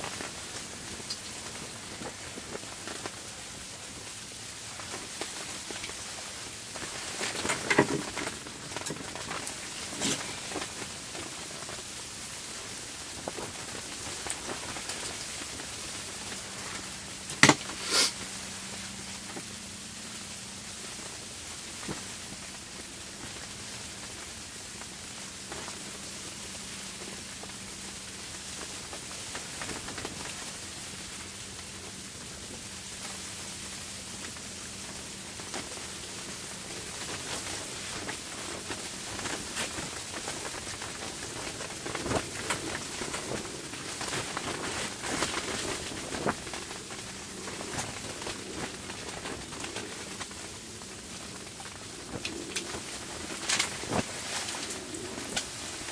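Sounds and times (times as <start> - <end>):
snowstorm hiss: 0.0 - 55.9.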